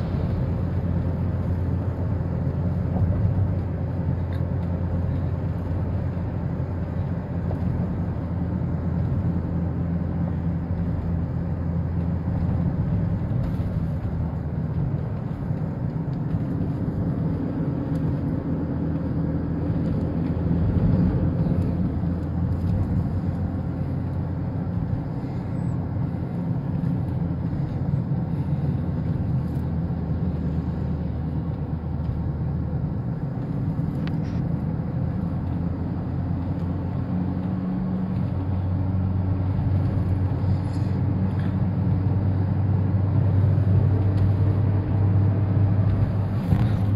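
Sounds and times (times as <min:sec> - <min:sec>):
car engine and road hum: 0:00.0 - 0:46.9.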